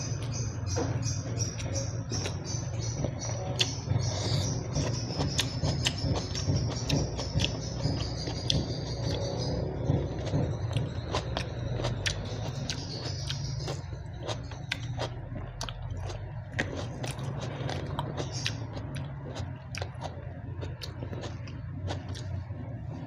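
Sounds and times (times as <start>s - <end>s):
chewing and crunching food: 0.0s - 23.0s
low hum: 0.0s - 23.0s.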